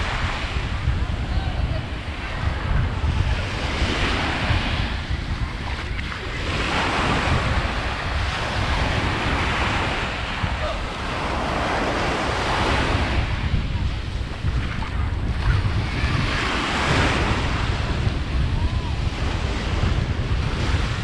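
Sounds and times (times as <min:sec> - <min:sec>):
small waves breaking on sand: 0:00.0 - 0:21.0
wind rumble on microphone: 0:00.0 - 0:21.0.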